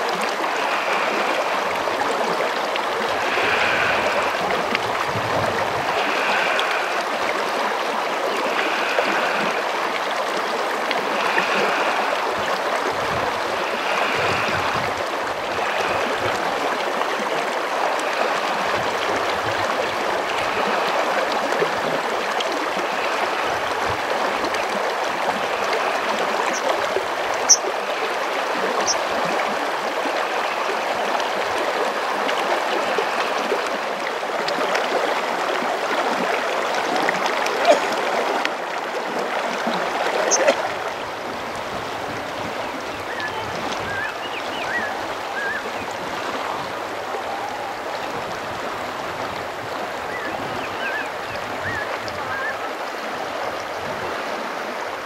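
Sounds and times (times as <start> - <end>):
mountain stream running: 0.0 - 55.0.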